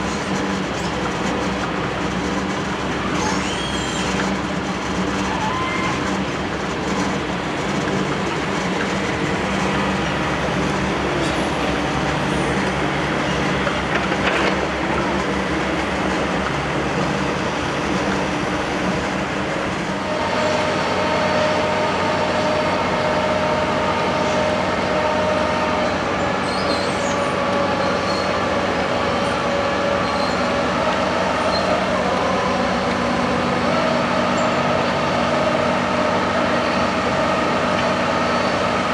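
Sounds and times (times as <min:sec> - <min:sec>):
diesel construction machinery running: 0:00.0 - 0:38.9
high-pitched machine whine: 0:02.2 - 0:38.9.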